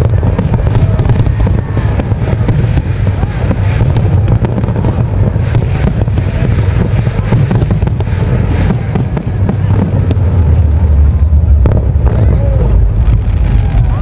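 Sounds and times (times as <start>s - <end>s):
fireworks booming and cracking: 0.0s - 14.0s.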